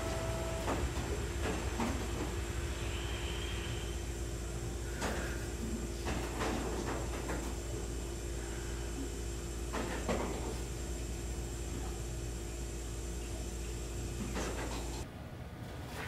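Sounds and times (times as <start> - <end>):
room ambience hum: 0.0 - 16.0.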